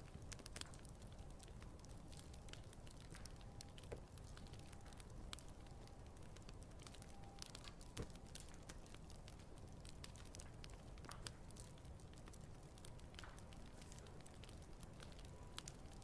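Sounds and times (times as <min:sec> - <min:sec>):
campfire crackling: 0:00.0 - 0:16.0
low rumble of flames: 0:00.0 - 0:16.0.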